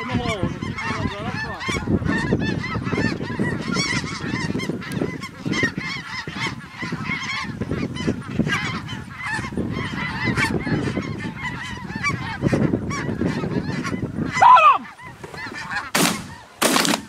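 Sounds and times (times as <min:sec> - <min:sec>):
geese honking: 0:00.0 - 0:17.0
wind rumbling on microphone: 0:00.0 - 0:17.0.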